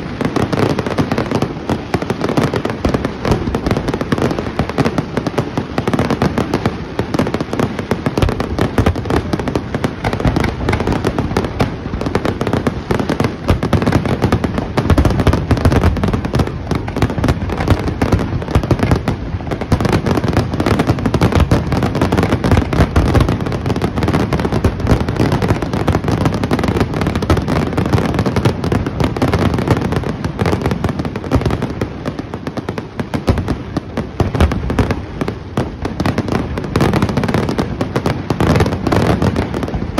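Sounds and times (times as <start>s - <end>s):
fireworks booming: 0.0s - 39.9s.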